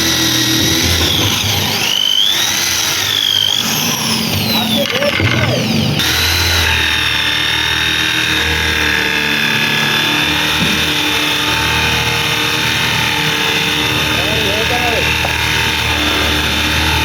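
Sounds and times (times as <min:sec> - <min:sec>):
washing machine motor whining: 0:00.0 - 0:17.0.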